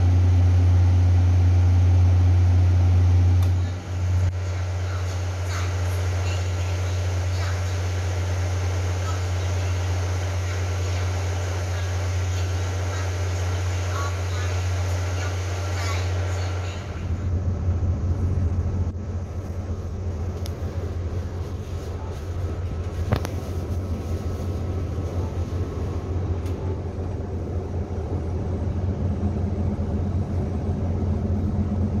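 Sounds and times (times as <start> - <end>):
train car hum and rumble: 0.0 - 32.0.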